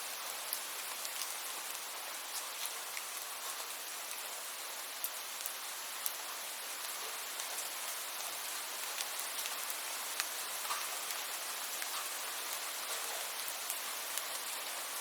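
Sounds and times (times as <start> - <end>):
steady rainfall hiss: 0.0 - 15.0
sharp ticks of raindrops: 0.1 - 15.0.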